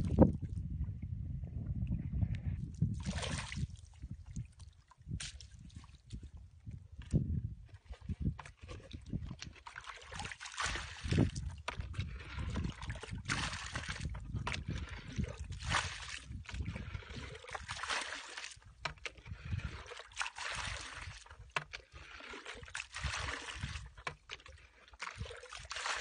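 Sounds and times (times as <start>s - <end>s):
bucket scooping muddy water: 2.1s - 26.0s.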